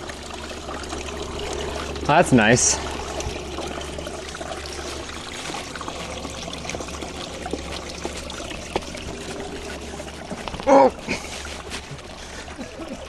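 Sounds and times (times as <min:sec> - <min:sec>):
water trickling over rock: 0:00.0 - 0:13.0.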